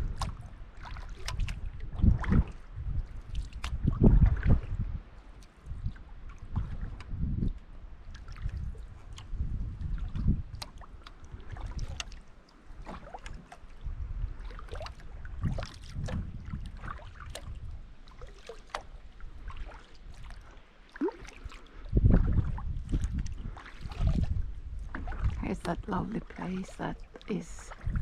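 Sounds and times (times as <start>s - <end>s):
paddle strokes in water: 0.0s - 28.0s.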